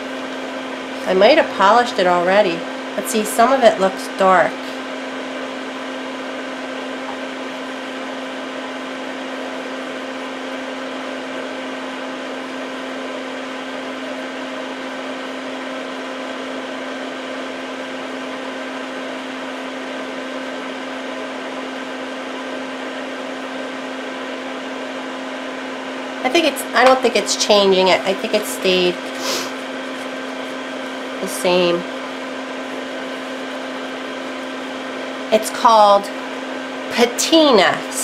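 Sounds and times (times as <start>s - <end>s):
electric appliance humming: 0.0s - 38.0s.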